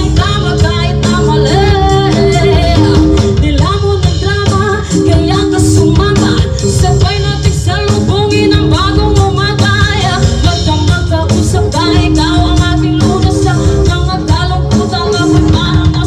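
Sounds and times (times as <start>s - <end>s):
drums: 0.0s - 16.0s
guitar: 0.0s - 16.0s
person singing: 0.0s - 16.0s.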